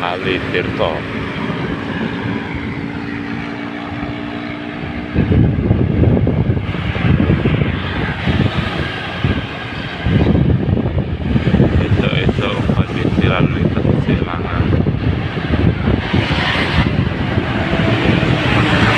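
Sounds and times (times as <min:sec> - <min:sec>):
vehicle engine running: 0:00.0 - 0:18.9
wind buffeting microphone: 0:00.0 - 0:18.9.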